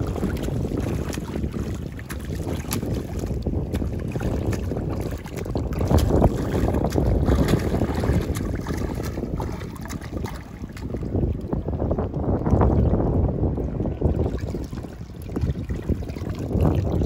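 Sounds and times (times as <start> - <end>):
feet splashing shallow water: 0.0 - 17.0
wind buffeting microphone: 0.0 - 17.0.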